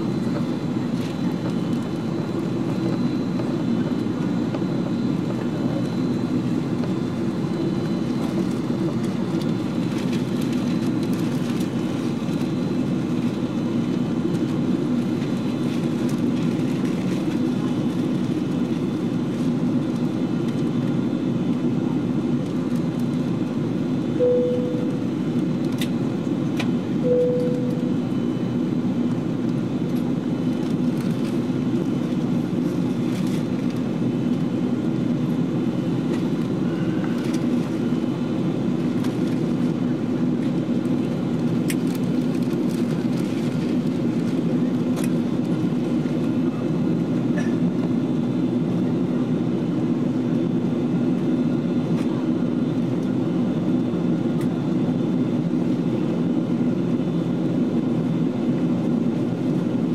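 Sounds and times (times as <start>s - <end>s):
airliner engines droning: 0.0s - 59.9s
constant hum: 0.0s - 59.9s.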